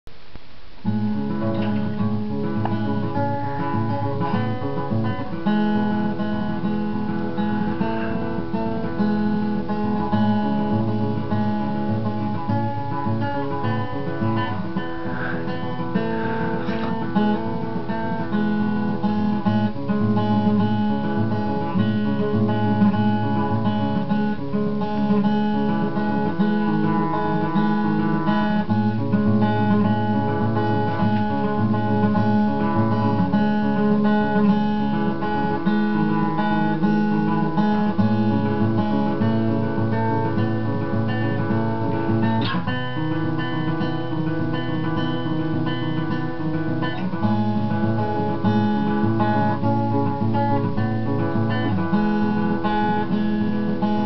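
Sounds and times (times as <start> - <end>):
acoustic guitar playing: 0.1 - 54.0.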